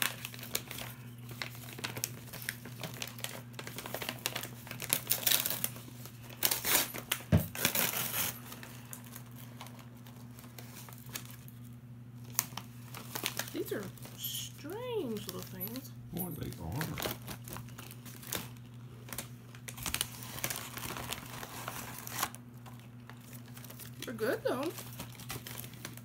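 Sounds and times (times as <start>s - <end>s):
snack bag crinkling: 0.0s - 26.0s.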